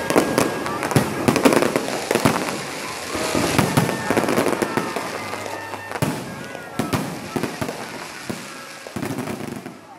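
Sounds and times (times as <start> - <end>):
fireworks bangs: 0.0 - 9.9
fireworks crackle: 0.0 - 9.9.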